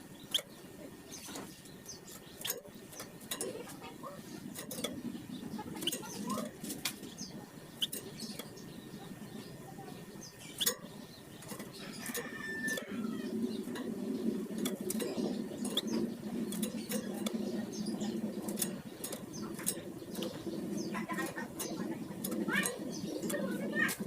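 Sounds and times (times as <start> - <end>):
low background rumble: 0.0 - 24.0
songbird chirps and clicks: 0.0 - 24.0.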